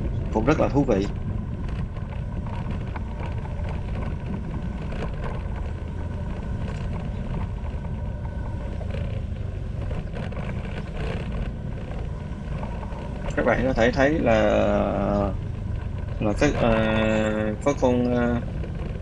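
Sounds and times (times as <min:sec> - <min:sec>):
motorbike engine and road rumble: 0:00.0 - 0:19.0.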